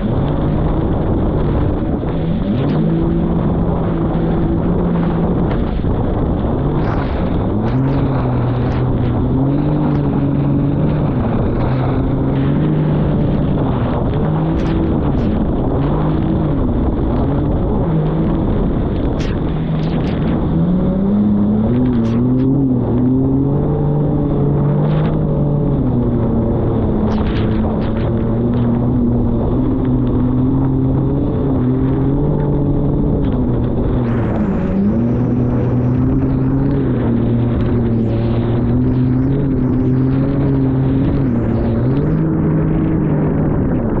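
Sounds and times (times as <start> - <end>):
jet ski engine running: 0.0 - 44.0
steady rushing noise: 0.0 - 44.0.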